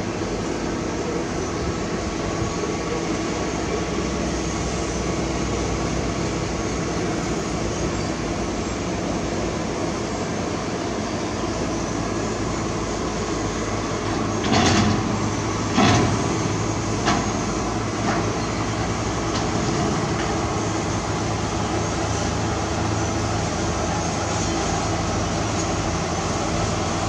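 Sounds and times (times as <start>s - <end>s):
diesel machinery running: 0.0s - 27.0s.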